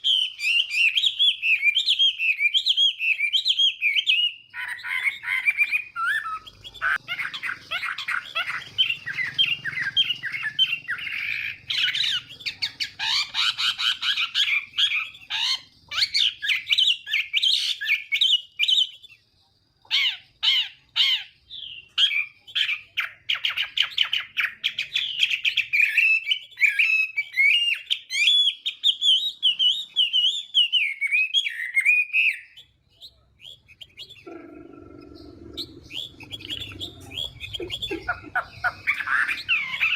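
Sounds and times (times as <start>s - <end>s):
bird singing whistled notes: 0.0s - 19.3s, 20.0s - 34.4s, 35.0s - 39.9s.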